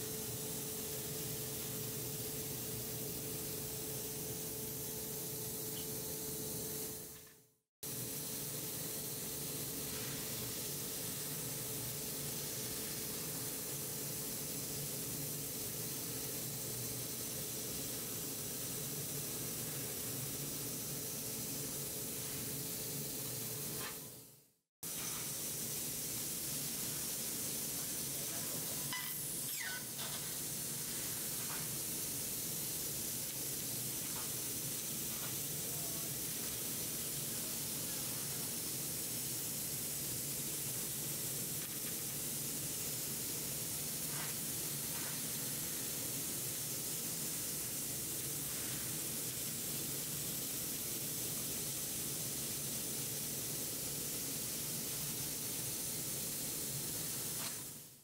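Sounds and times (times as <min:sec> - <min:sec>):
laser cutter hissing: 0:00.0 - 0:07.2, 0:07.8 - 0:58.0.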